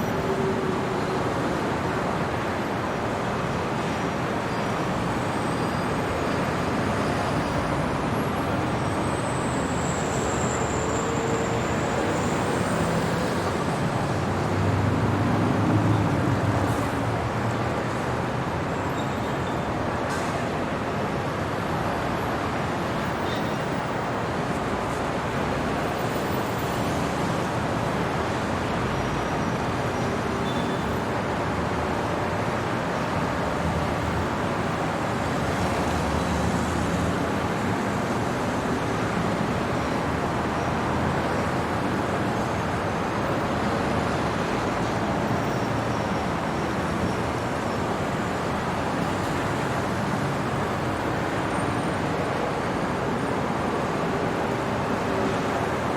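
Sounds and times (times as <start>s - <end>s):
city traffic hum: 0.0s - 55.9s.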